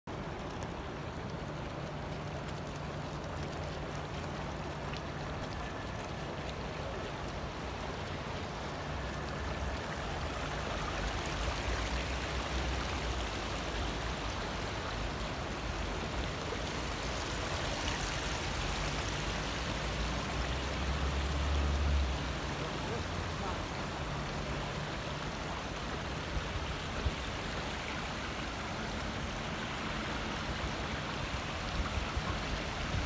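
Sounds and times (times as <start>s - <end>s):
fountain splashing into pond: 0.1s - 33.0s.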